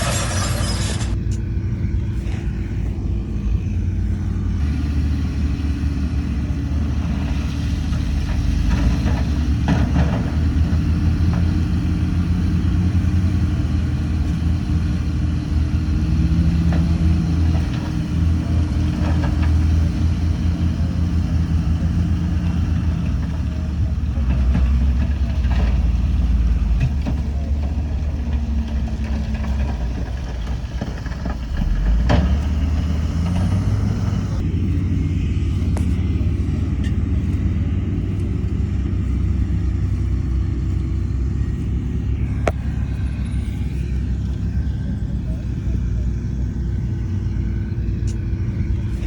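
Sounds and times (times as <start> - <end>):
heavy diesel machinery rumbling: 0.0 - 49.0.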